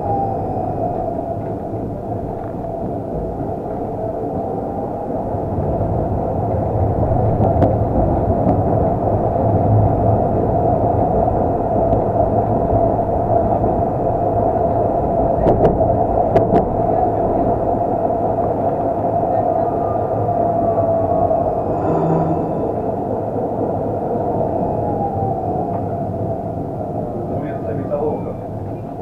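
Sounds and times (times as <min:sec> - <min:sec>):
tram rumbling along track: 0:00.0 - 0:29.0.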